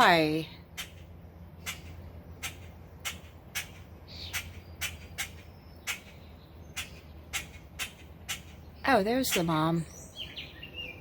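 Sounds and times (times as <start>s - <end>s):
bird squawking: 0.7s - 11.0s.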